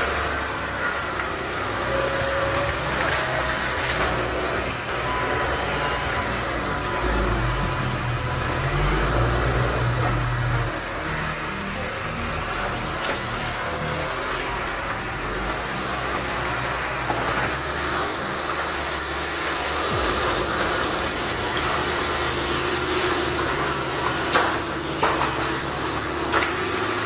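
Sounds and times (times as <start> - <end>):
heavy machine engine running: 0.0 - 27.0.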